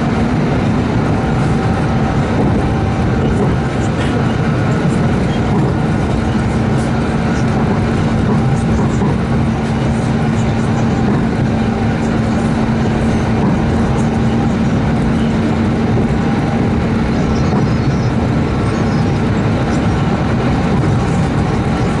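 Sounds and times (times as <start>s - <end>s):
low train hum: 0.0s - 22.0s
train wheels rumbling on rails: 0.0s - 22.0s.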